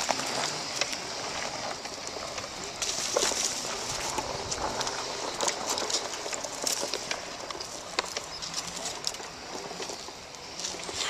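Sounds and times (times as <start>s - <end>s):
footsteps on dry dirt: 0.0s - 11.0s
steady hiss: 0.0s - 11.0s
tyres crunching over dirt: 0.0s - 11.0s.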